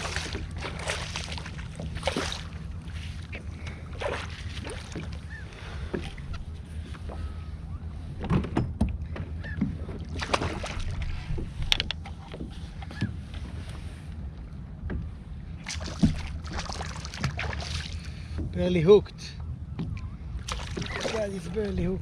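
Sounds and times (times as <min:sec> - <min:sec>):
water splashing against kayak hull: 0:00.0 - 0:13.8, 0:14.9 - 0:18.6, 0:19.7 - 0:22.0
steady low hum: 0:00.0 - 0:22.0.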